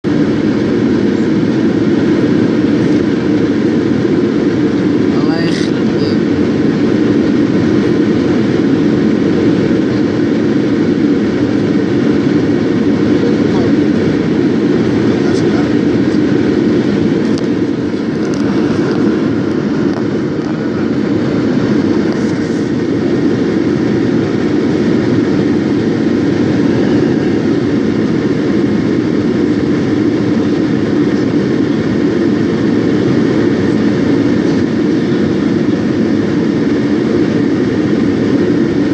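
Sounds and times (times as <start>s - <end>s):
airliner cabin noise: 0.0s - 38.9s.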